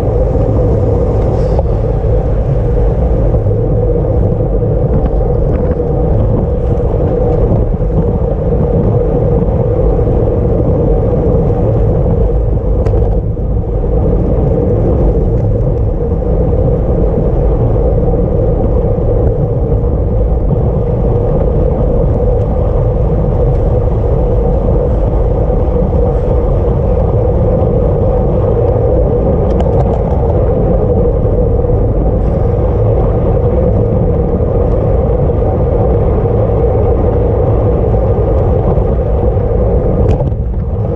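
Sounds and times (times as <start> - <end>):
low rumble: 0.0 - 40.9
wind and road noise: 0.0 - 40.9.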